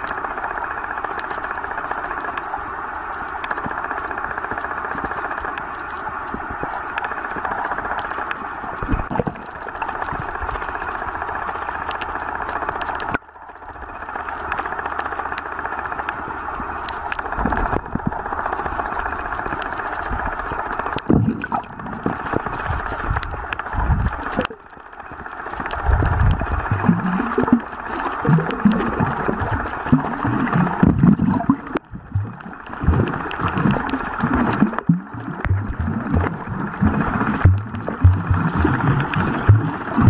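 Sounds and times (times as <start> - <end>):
underwater hiss with crackle: 0.0 - 13.2, 13.9 - 40.0.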